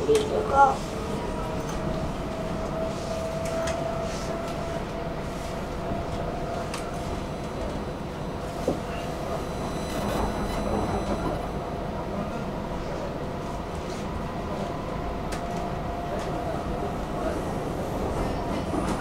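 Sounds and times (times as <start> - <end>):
metro train rumble and whine: 0.0 - 19.0.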